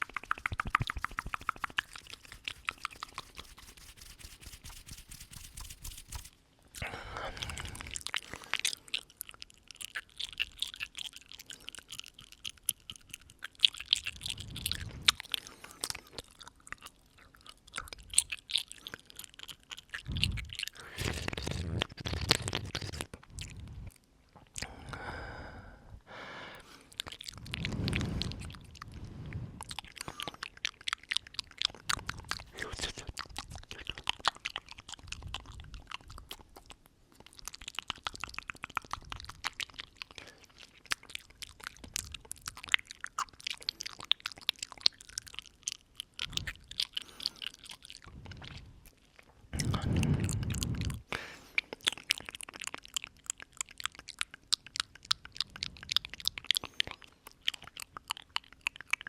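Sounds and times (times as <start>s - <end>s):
wet mouth clicks and smacks: 0.0s - 24.9s, 26.6s - 59.0s.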